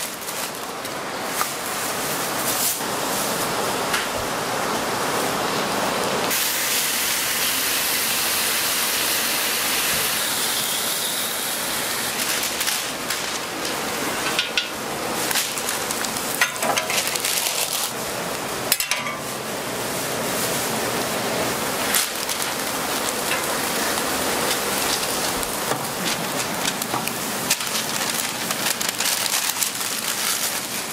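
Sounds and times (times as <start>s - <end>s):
hot oil sizzling: 5.0s - 30.9s.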